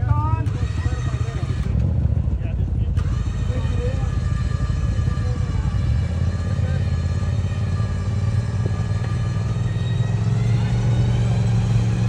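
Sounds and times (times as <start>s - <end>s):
vehicle engine running steadily: 0.0s - 12.0s.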